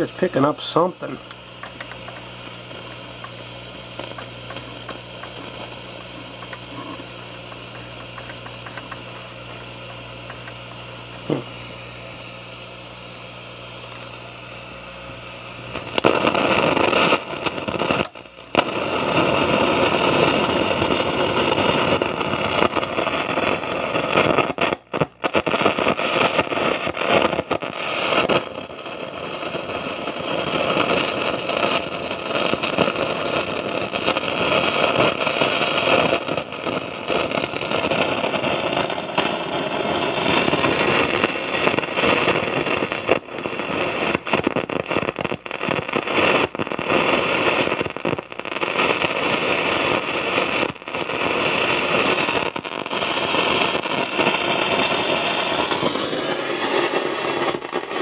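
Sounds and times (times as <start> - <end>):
radio static with crackles: 0.0 - 58.0.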